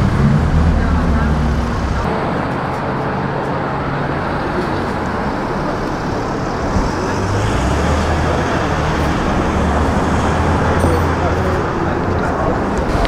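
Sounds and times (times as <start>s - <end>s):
low engine hum: 0.0s - 13.0s
rush of traffic: 0.0s - 13.0s.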